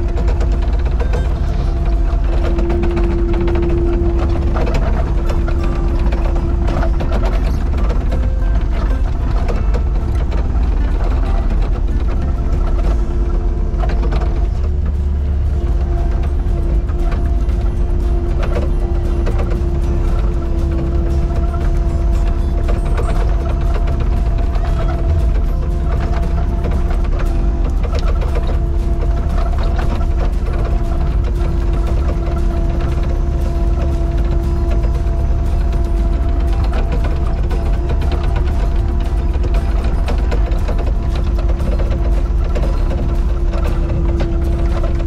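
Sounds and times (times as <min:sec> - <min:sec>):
excavator engine rumbling: 0:00.0 - 0:45.0
metallic knocks and clanks: 0:00.0 - 0:45.0.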